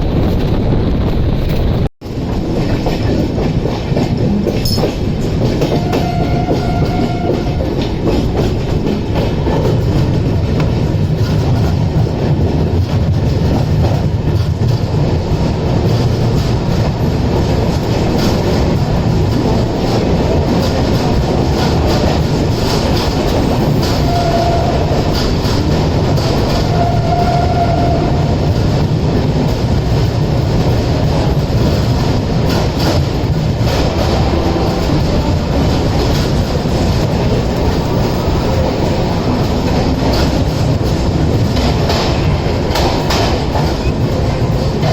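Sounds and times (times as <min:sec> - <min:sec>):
train rumbling: 0:00.0 - 0:44.9
wheels clacking over rail joints: 0:01.5 - 0:44.9.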